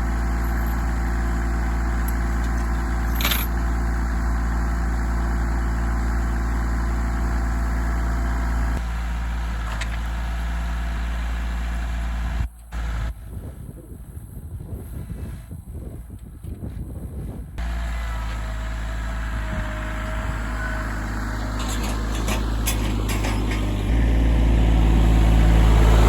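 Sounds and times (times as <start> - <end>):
tractor engine idling: 0.0 - 13.1, 17.6 - 26.0.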